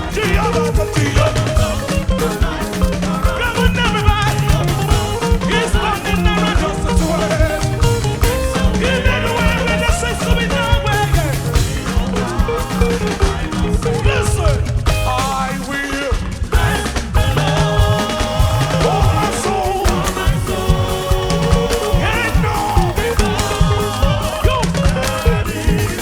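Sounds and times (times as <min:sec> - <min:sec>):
gospel band music: 0:00.0 - 0:26.0
person singing: 0:00.0 - 0:26.0.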